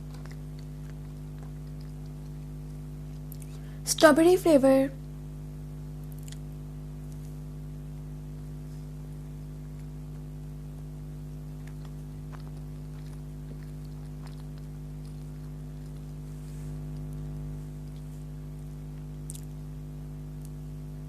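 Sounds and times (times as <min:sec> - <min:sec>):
soft chewing: 0:00.0 - 0:03.7, 0:06.0 - 0:19.7
low electrical hum: 0:00.0 - 0:21.0.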